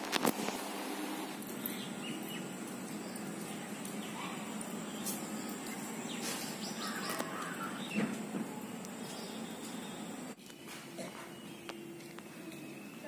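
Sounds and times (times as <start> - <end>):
outdoor background hum: 0.0 - 13.0
bird chirps: 1.4 - 13.0.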